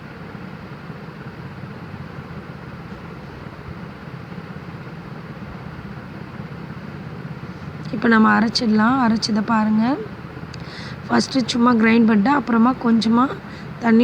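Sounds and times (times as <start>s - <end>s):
background room noise: 0.0s - 14.0s.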